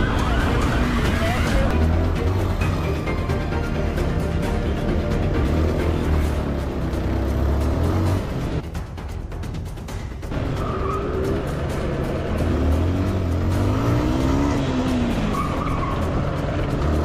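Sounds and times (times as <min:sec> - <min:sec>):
motorcycle engine revving: 0:00.0 - 0:08.6, 0:10.3 - 0:17.0
background music: 0:00.0 - 0:17.0.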